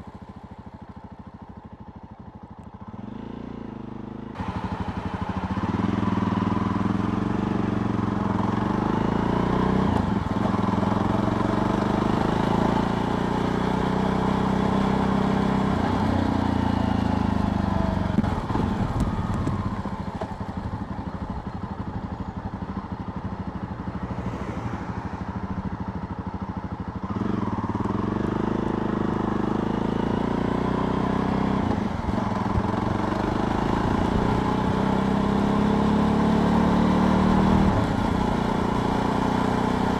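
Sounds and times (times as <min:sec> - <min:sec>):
two-stroke motorcycle engine revving: 0:02.8 - 0:39.9.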